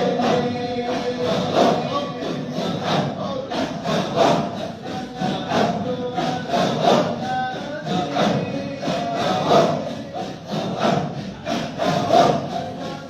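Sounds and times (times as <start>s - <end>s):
group chanting rhythmically: 0.0s - 13.0s.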